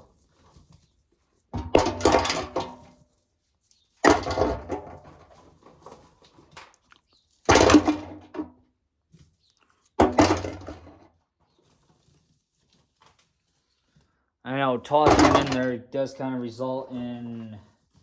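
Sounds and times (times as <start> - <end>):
corn ears clattering into container: 0.0 - 3.1, 3.9 - 9.3, 10.0 - 16.3.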